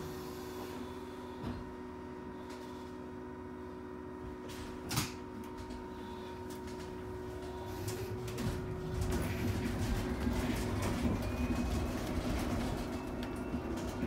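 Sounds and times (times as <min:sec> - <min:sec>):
electric bus hum: 0:00.0 - 0:14.0.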